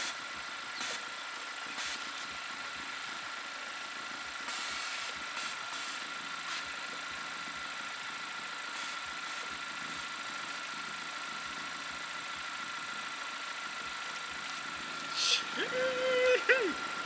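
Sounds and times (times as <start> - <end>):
car engine hum: 0.0 - 17.0
thin steady whine: 0.0 - 17.0.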